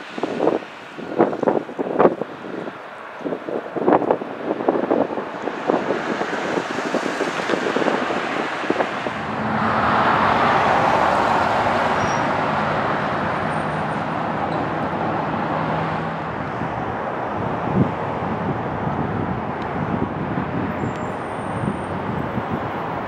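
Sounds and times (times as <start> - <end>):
steady jet engine rush: 0.0 - 20.7
rough jet engine rumble: 0.0 - 23.0
wind on microphone: 0.0 - 23.0.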